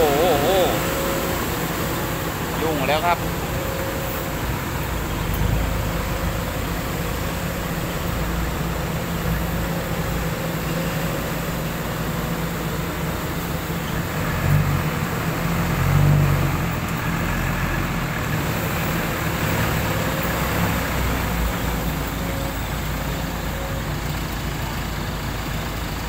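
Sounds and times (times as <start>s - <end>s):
truck diesel engine revving: 0.0s - 26.0s.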